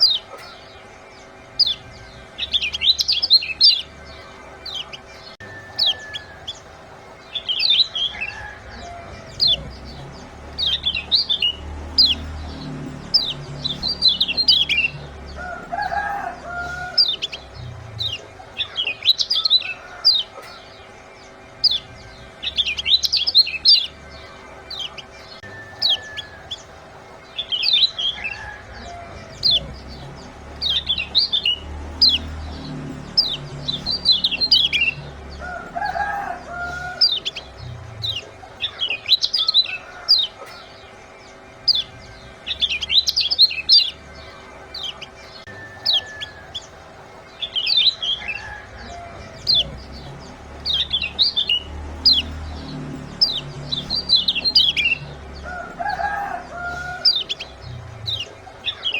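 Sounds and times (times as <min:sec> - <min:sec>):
high bird chip calls: 0:00.0 - 0:58.9
lower bird call: 0:00.0 - 0:58.9
steady low hum: 0:00.0 - 0:58.9.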